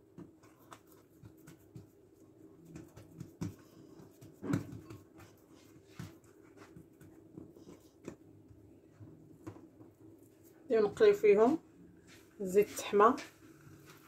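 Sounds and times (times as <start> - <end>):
hands patting dough: 0.0 - 14.0.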